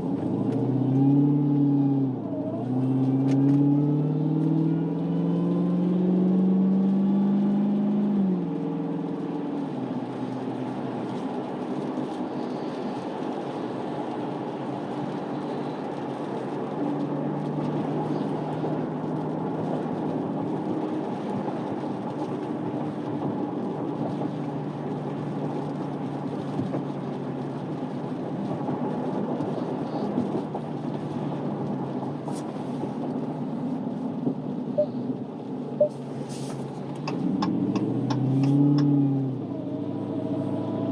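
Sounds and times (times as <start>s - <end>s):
car engine under power: 0.0s - 40.9s
road noise: 0.0s - 40.9s.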